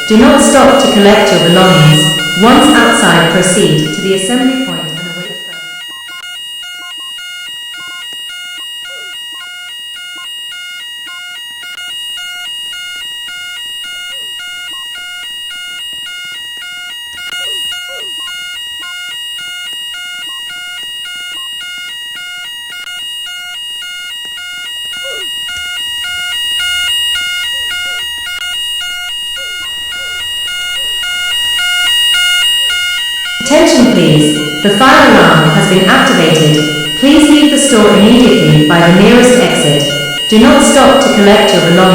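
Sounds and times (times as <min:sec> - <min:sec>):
pulsing electronic alarm tone: 0:00.0 - 0:41.9
steady high-pitched tone: 0:00.0 - 0:41.9.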